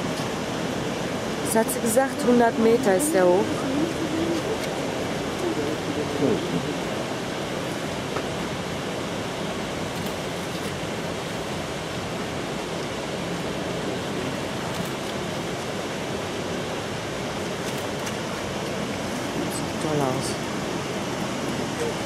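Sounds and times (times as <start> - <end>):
river running: 0.0 - 22.0
waterfall roaring: 0.0 - 22.0.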